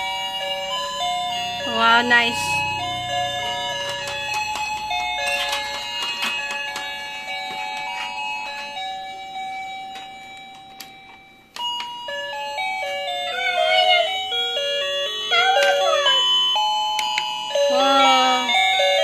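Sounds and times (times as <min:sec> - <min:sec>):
electronic doorbell tune: 0:00.0 - 0:19.0.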